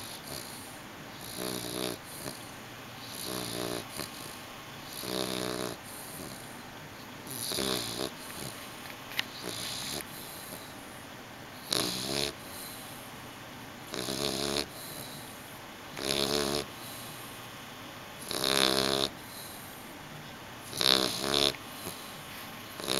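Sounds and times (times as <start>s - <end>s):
pet snoring: 0.0s - 10.8s, 11.6s - 13.0s, 13.9s - 17.4s, 18.2s - 19.9s, 20.6s - 22.9s.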